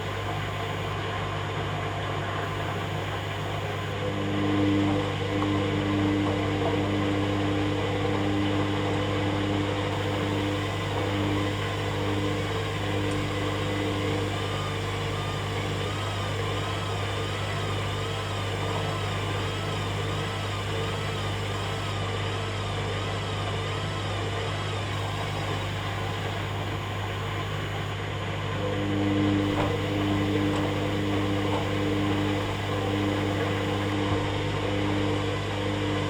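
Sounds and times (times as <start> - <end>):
wavering whine: 0.0 - 1.0, 2.4 - 22.0, 24.9 - 28.0, 28.7 - 35.1
washing machine humming: 0.0 - 36.0.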